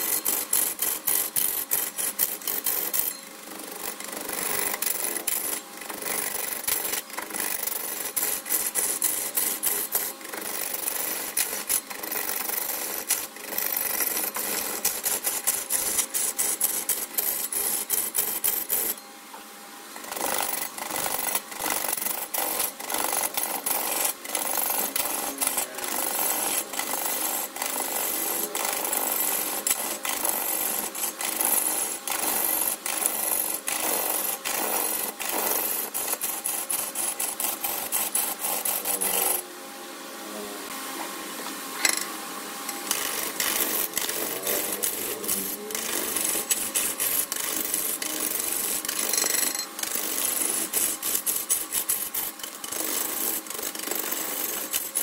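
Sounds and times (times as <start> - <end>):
turning tool scraping wood on lathe: 0.0 - 19.0, 20.0 - 39.4, 42.7 - 55.0.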